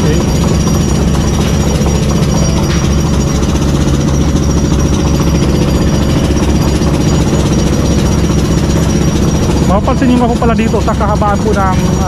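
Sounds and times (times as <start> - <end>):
engine rapid mechanical clatter: 0.0 - 12.0.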